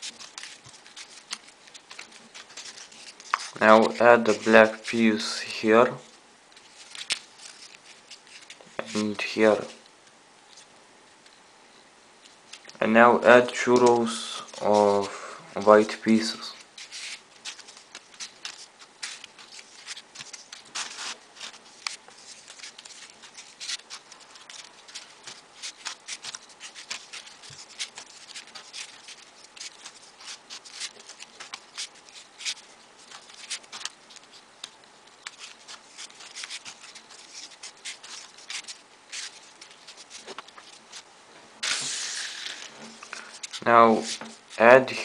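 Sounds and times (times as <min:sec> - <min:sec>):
paper clicks and rustles: 0:00.0 - 0:05.2, 0:06.5 - 0:09.9, 0:12.2 - 0:12.8, 0:13.4 - 0:44.7.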